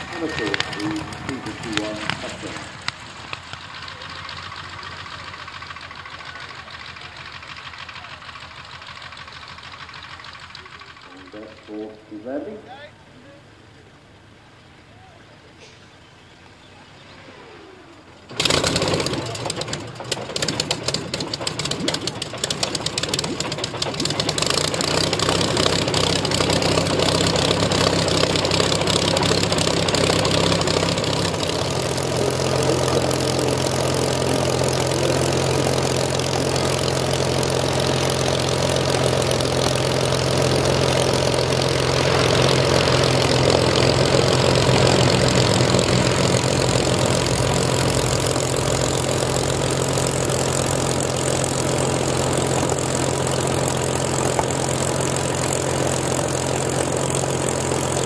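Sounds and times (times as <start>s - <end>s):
aircraft engine starting: 0.0s - 12.7s, 16.9s - 58.0s.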